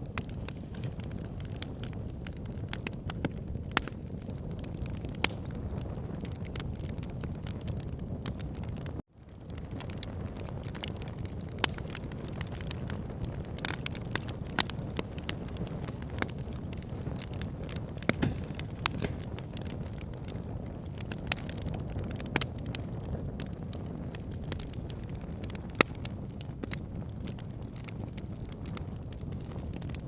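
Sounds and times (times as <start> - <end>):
fire crackling in fireplace: 0.0 - 30.0.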